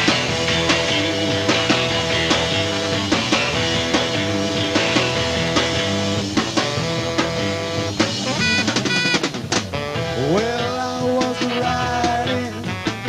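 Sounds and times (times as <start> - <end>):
guitar chords: 0.0 - 13.0
steady drum beat: 0.0 - 13.0.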